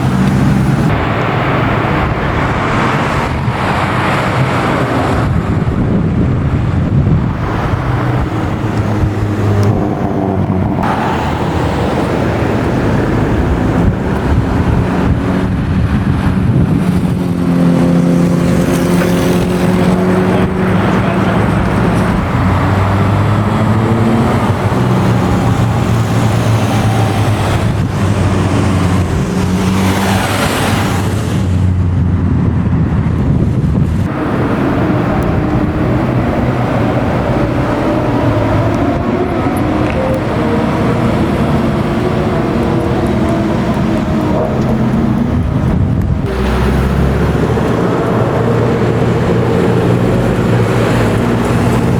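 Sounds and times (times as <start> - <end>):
cars passing by: 0.0 - 51.9.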